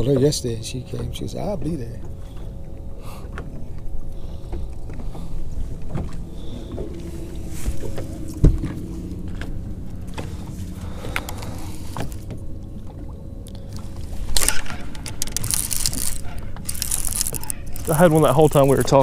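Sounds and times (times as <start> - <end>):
faint steady hum: 0.0 - 19.0
wind and water rumble: 0.0 - 19.0.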